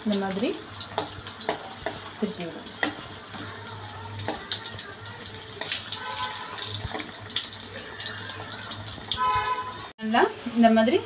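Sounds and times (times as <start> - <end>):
batter sizzling in hot oil: 0.0 - 11.0.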